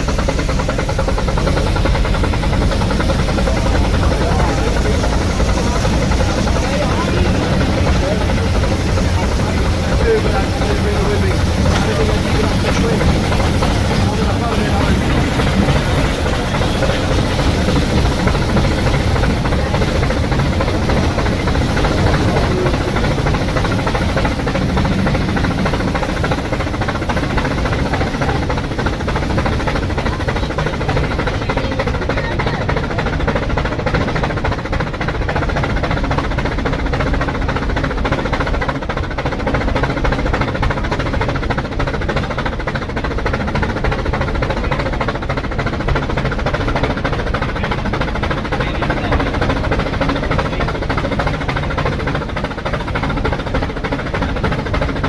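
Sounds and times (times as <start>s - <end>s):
steam hissing: 0.0s - 55.0s
steam locomotive puffing: 0.0s - 55.0s.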